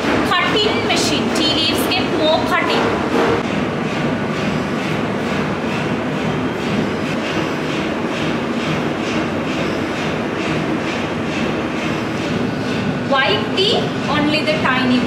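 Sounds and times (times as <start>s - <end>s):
machinery clattering rhythmically: 0.0s - 15.0s.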